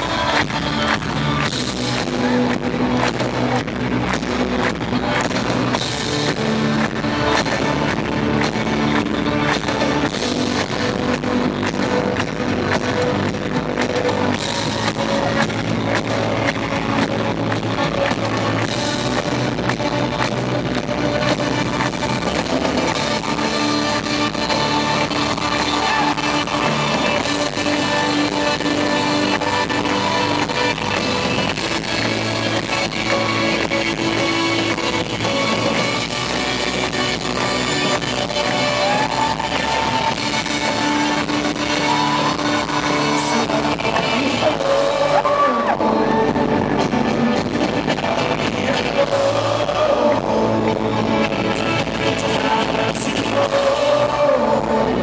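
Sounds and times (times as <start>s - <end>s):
live instrumental band music: 0.0s - 54.9s.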